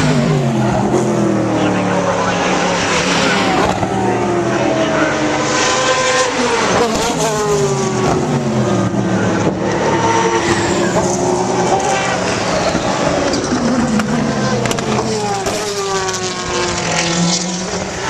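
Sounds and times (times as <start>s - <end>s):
racing car engines passing: 0.0s - 18.0s.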